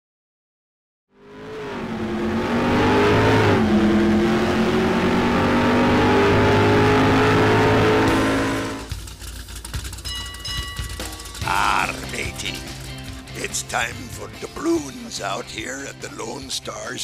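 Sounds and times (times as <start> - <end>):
car engine accelerating: 1.1 - 16.4.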